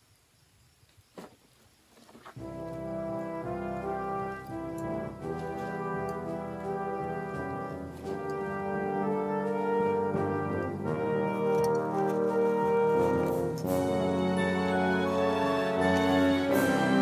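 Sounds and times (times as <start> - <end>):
orchestral music led by brass: 2.4 - 17.0.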